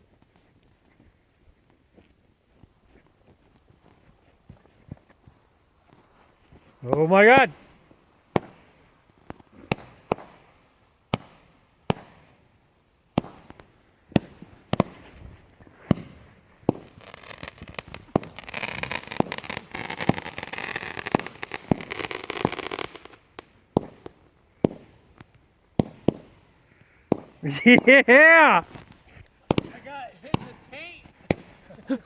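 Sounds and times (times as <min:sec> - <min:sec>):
firework crackling barrage: 0:03.4 - 0:32.0
firework bangs: 0:05.2 - 0:32.0.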